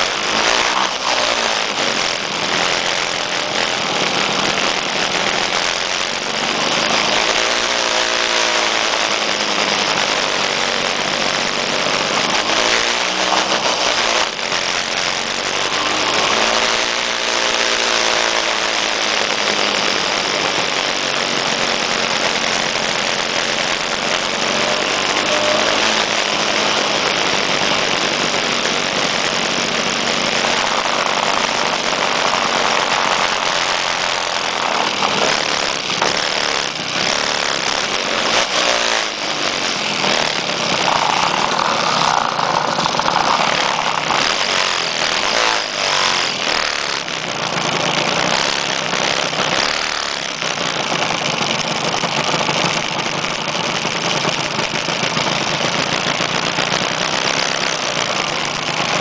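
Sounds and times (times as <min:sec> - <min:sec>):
scooter engines idling and revving: 0:00.0 - 0:59.0.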